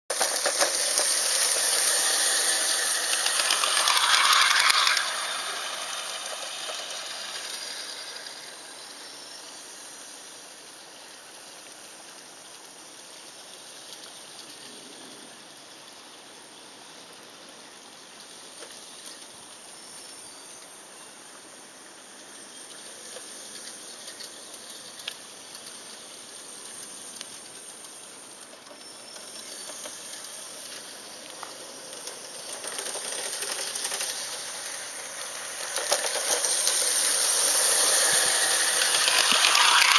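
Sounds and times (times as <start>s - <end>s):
model train running on track: 0.1s - 39.9s.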